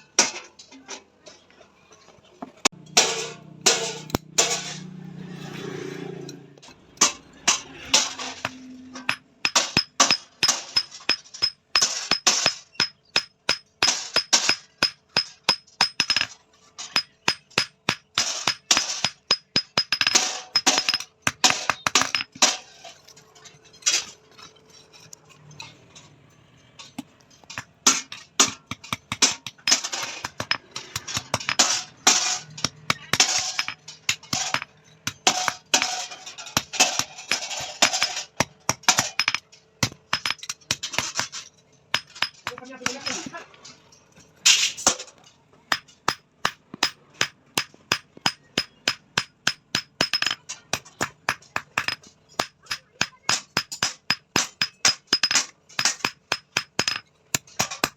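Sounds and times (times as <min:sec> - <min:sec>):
hammer striking steel on anvil: 0:02.8 - 0:05.0, 0:07.0 - 0:22.6, 0:27.0 - 0:43.3, 0:45.7 - 0:57.9.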